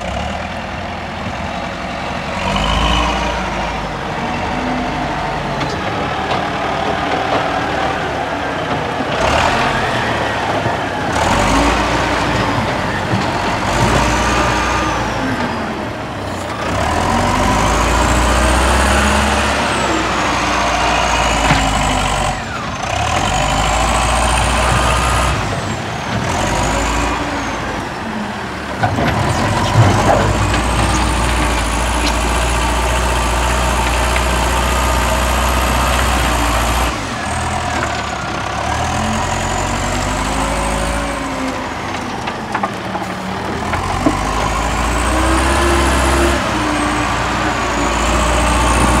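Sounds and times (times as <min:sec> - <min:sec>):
wheel loader diesel engine: 0:00.0 - 0:49.0.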